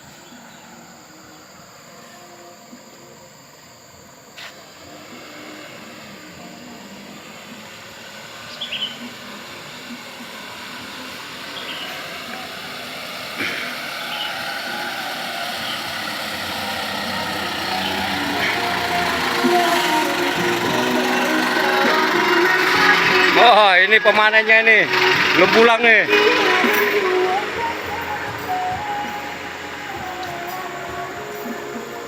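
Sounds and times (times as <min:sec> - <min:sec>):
vehicle engine running: 0:02.8 - 0:32.0.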